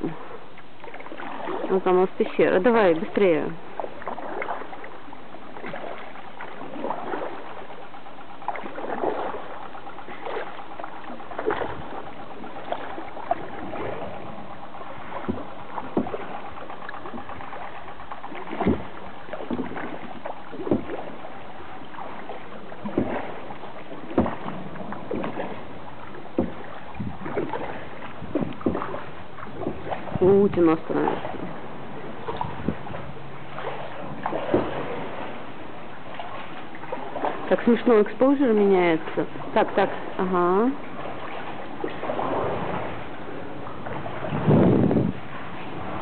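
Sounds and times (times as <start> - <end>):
kayak paddles splashing: 0.0 - 46.0
wash of water: 0.0 - 46.0.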